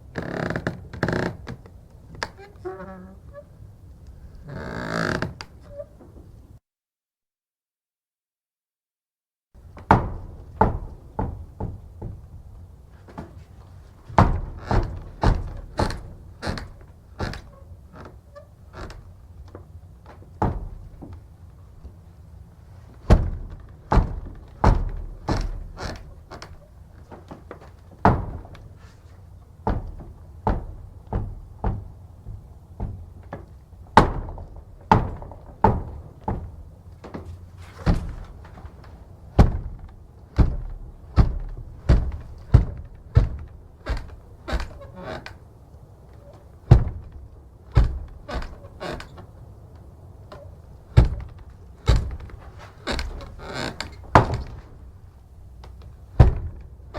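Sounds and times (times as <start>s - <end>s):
heavy wooden door banging: 9.6s - 56.9s.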